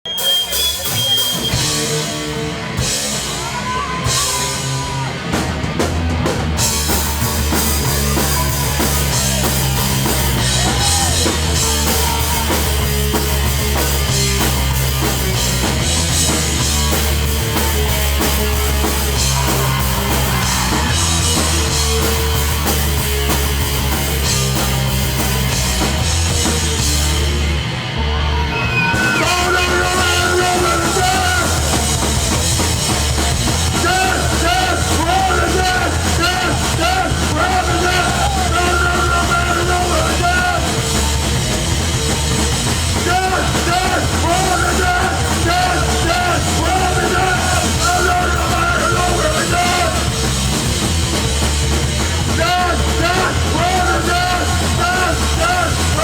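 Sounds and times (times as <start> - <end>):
punk band playing loud: 0.0 - 56.0.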